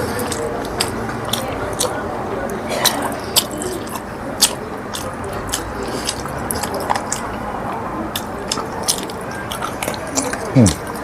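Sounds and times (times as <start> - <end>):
person chewing with wet mouth clicks: 0.0 - 11.0.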